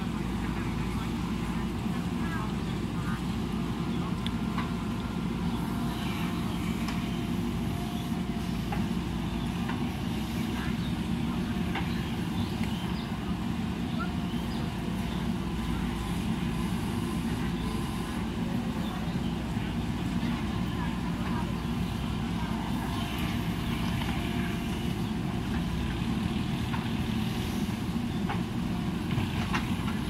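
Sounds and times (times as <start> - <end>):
diesel engine running under load: 0.0 - 30.0.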